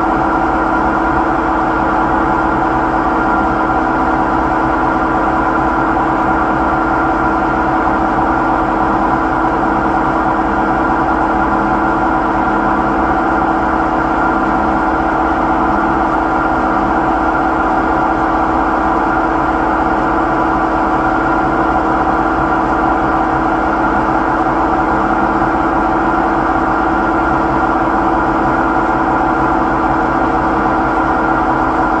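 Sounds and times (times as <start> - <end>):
washing machine spinning with whine: 0.0 - 32.0.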